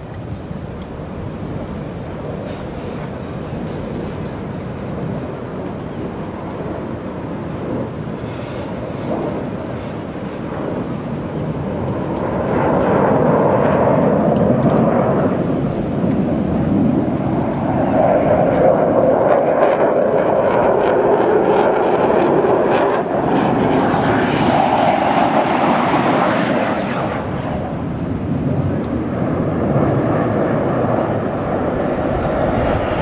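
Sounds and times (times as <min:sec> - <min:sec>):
low-flying airplane engine roar: 0:00.0 - 0:33.0.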